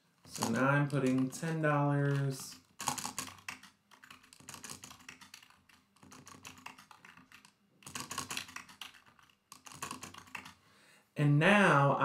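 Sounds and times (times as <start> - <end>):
computer keyboard typing: 0.3 - 10.6.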